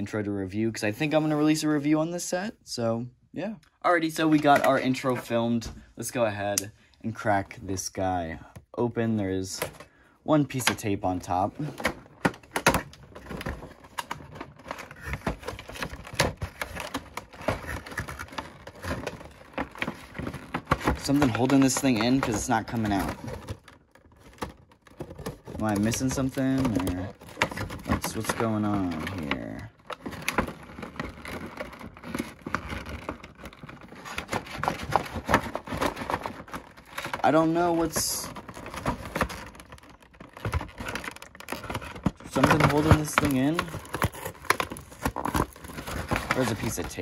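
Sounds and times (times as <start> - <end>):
packaging crinkling and rustling: 9.3 - 47.0.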